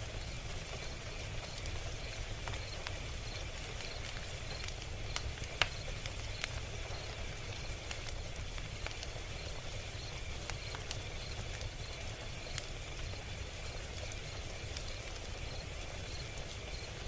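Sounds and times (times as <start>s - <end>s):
fire hiss and rumble: 0.0s - 17.0s
log fire crackling: 0.0s - 17.0s.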